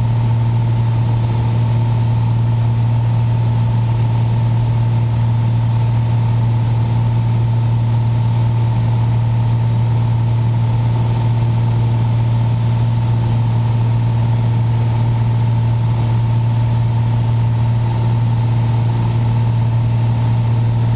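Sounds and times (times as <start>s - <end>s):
airplane engine humming in cabin: 0.0s - 20.9s.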